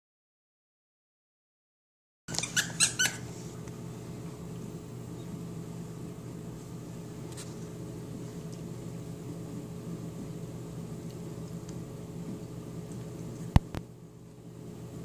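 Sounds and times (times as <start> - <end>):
low mechanical hum: 2.3 - 15.0.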